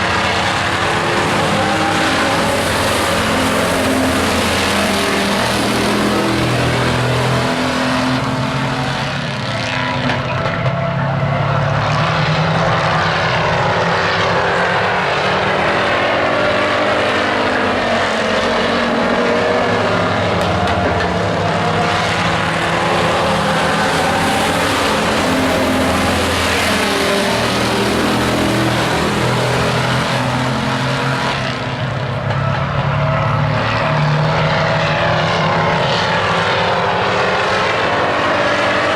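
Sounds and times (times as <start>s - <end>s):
race truck engines passing: 0.0s - 38.9s.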